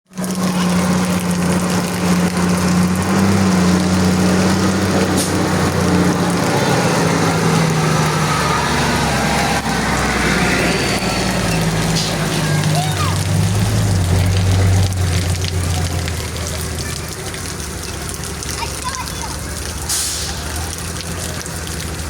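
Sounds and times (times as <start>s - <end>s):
heavy rain hissing: 0.2s - 22.0s.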